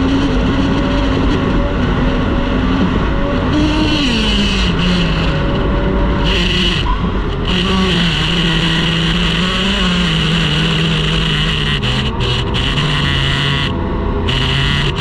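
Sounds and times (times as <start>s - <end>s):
outboard motor running hard: 0.0s - 15.0s.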